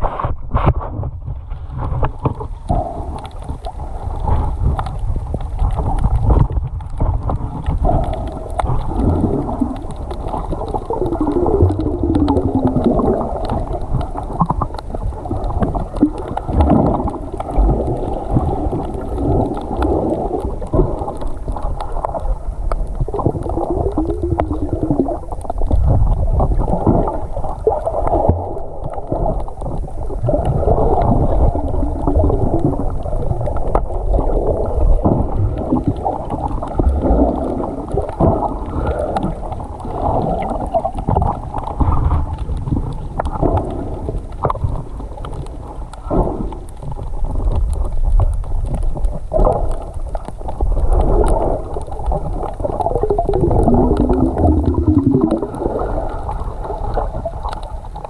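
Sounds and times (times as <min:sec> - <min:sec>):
underwater sloshing and gurgling: 0:00.0 - 0:58.0.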